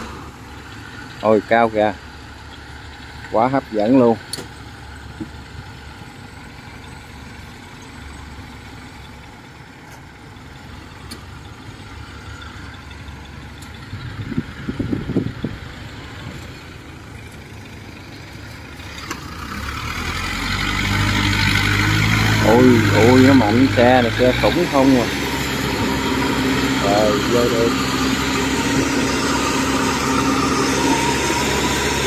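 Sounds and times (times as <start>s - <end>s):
combine harvesters running: 0.0s - 32.0s
tracked carrier engine: 0.0s - 32.0s.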